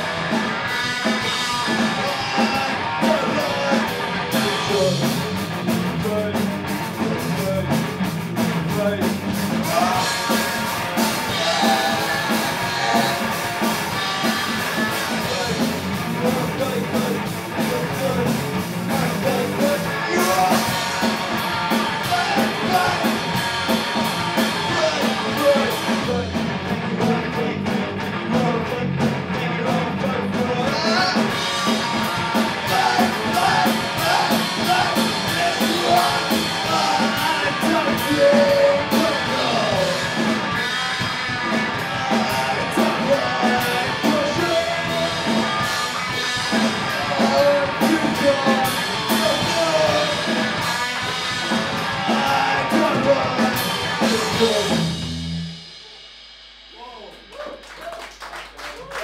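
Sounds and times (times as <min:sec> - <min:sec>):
singer's vocals: 0:00.0 - 0:07.9, 0:08.5 - 0:55.0
electric guitar: 0:00.0 - 0:55.8
drum and cymbal hits: 0:00.0 - 0:58.0.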